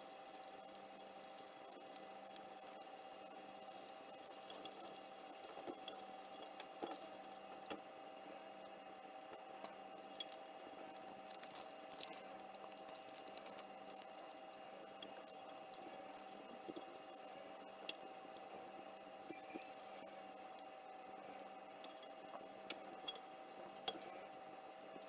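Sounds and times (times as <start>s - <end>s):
bacon sizzling: 0.0s - 25.0s.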